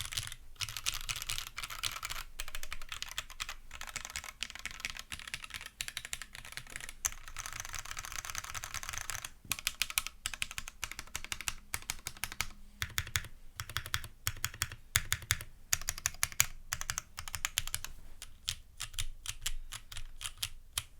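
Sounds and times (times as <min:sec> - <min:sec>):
mechanical keyboard typing: 0:00.0 - 0:20.9.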